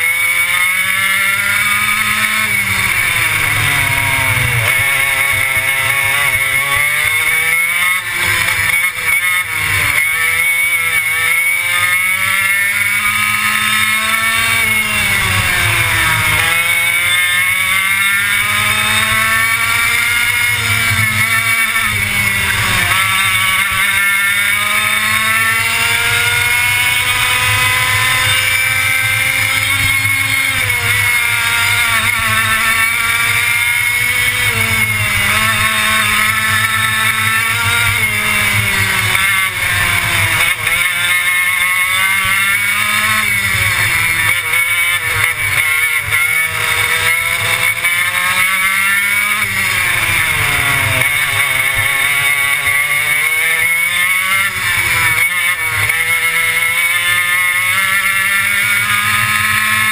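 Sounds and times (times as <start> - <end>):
kart engine at full throttle: 0.0 - 59.9.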